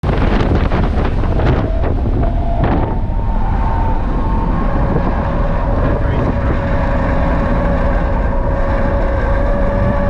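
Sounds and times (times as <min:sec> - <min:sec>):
car engine driven hard: 0:00.0 - 0:10.0
road rumble: 0:00.0 - 0:10.0
wind noise: 0:00.0 - 0:10.0.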